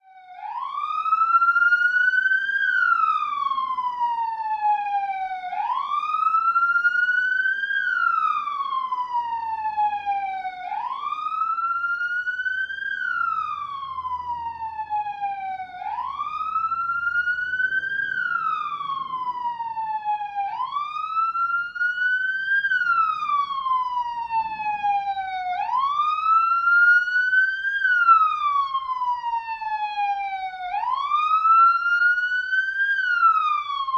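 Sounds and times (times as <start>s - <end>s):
police siren wailing: 0.0s - 33.9s.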